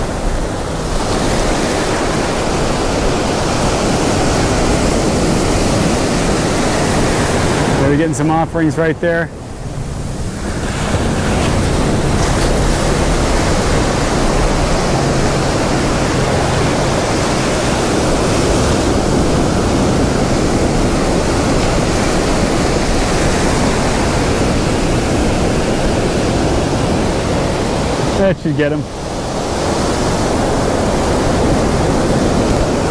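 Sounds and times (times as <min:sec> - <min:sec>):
ocean surf breaking: 0:00.0 - 0:32.9.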